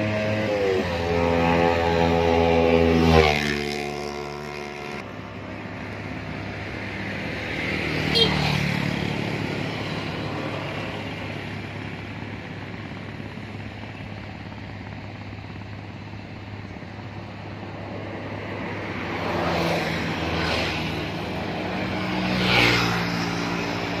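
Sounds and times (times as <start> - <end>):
traffic engine hum: 0.0 - 24.0
vehicles passing close by: 0.0 - 24.0.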